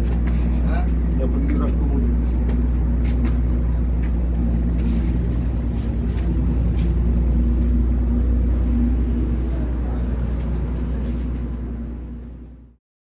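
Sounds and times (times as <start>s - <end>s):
hum tones: 0.0s - 12.8s
ship engines droning: 0.0s - 12.8s.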